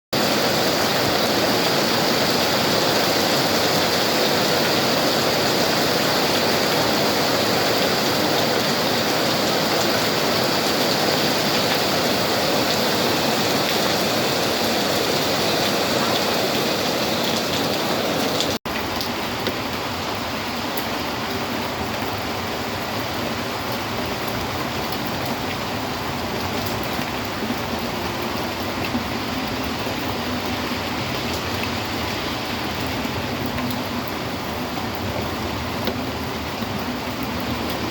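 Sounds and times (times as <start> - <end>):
steady rain falling: 0.2 - 37.9.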